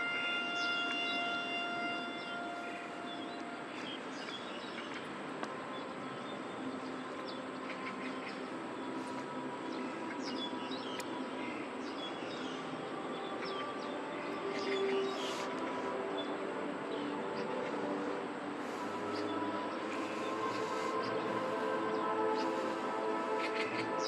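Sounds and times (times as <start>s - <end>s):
city ambience rumble: 0.0s - 24.0s
small birds chirping: 0.5s - 24.0s.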